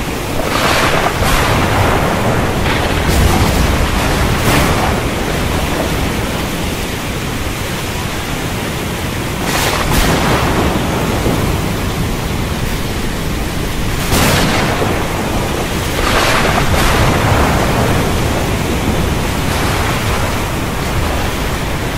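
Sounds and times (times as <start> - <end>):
rain rushing: 0.0 - 21.9
wind: 0.0 - 21.9.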